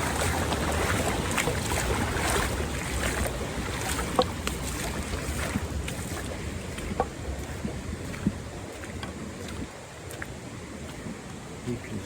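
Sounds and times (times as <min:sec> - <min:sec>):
creek water rushing over a ford: 0:00.0 - 0:12.0.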